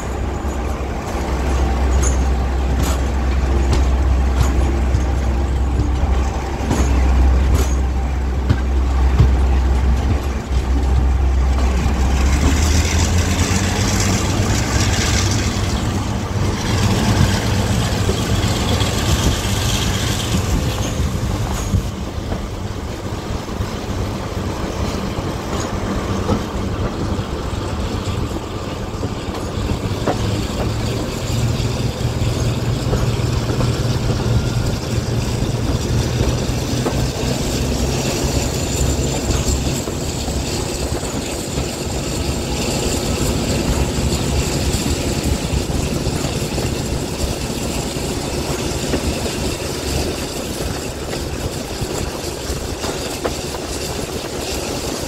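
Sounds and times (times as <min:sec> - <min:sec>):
diesel locomotive engine throbbing: 0:00.0 - 0:55.0.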